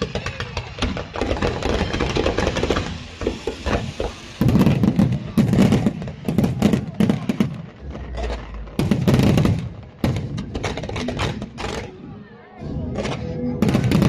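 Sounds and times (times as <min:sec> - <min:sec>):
firework shells booming: 0:00.0 - 0:11.9
firework crackle and pops: 0:00.0 - 0:12.1, 0:13.0 - 0:14.0.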